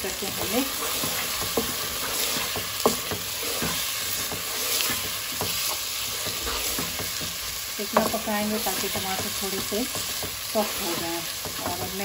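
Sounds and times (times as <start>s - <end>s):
food sizzling in oil: 0.0s - 12.0s
spatula scraping and knocking pan: 0.1s - 12.0s.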